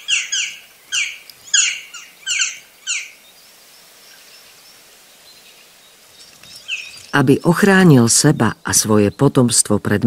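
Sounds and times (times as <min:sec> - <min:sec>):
woodpecker calling: 0:00.0 - 0:09.3.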